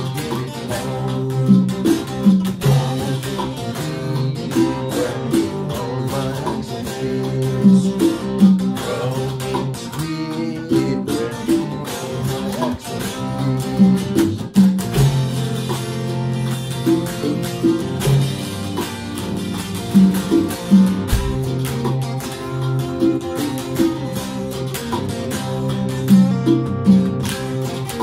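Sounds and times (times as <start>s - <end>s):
electric guitar riff: 0.0s - 28.0s.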